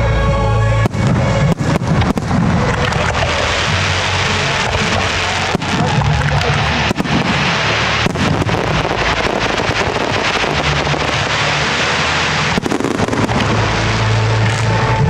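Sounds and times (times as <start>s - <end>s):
fireworks bangs: 0.8s - 15.0s
fireworks crackling: 0.8s - 15.0s.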